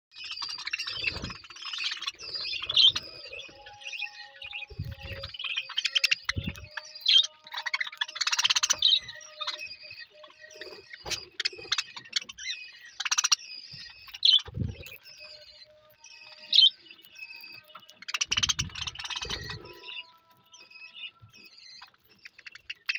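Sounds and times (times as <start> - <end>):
budgerigars chattering and chirping: 0.1 - 22.9.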